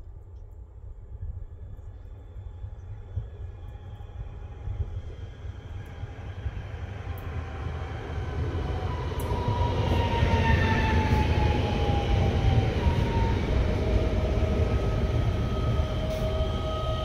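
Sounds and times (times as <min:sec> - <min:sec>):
train wheels rumbling on rail: 0:02.6 - 0:17.0.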